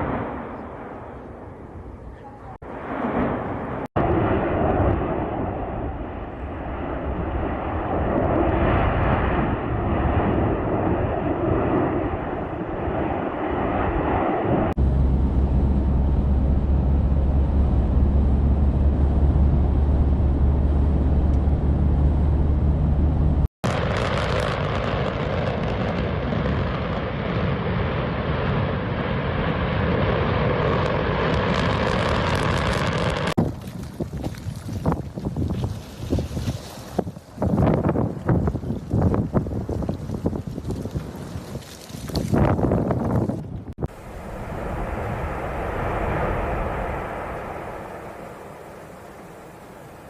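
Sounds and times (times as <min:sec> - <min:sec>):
deep volcanic roar: 0:02.7 - 0:35.4, 0:37.2 - 0:50.0.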